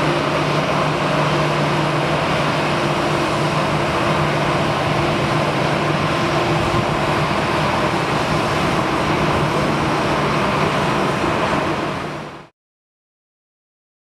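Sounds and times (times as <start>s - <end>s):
jet engines idling: 0.0s - 12.5s.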